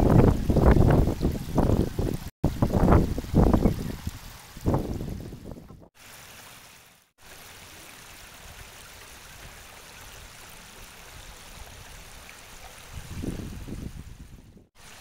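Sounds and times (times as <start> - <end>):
stream flowing over rocks: 0.0 - 13.9, 14.8 - 15.0.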